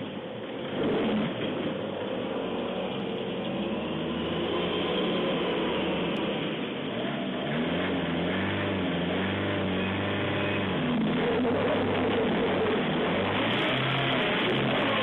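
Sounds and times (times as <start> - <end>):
van engine running at low revs: 0.0 - 15.0.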